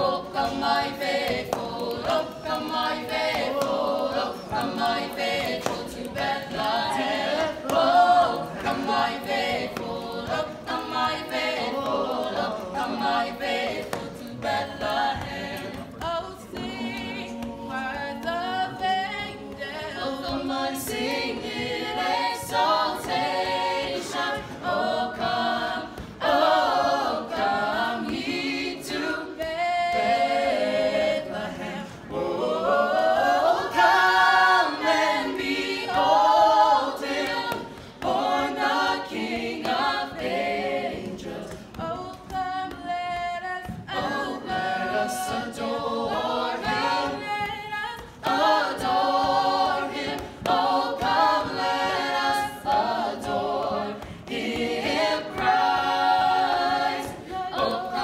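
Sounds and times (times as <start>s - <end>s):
children singing a cappella: 0.0s - 58.0s.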